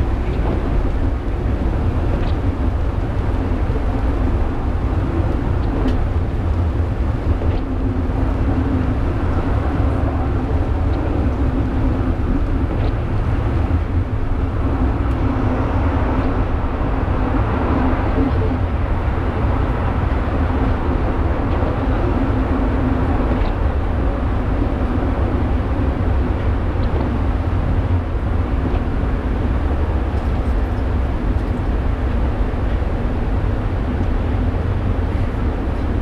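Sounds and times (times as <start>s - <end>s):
funicular car rumbling on rails: 0.0s - 36.0s.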